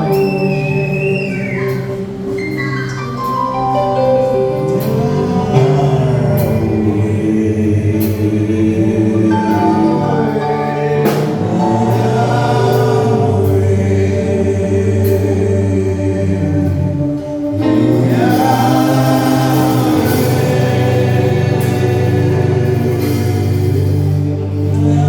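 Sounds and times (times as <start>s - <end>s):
choir singing held notes: 0.0s - 25.0s
instrumental accompaniment: 0.0s - 25.0s.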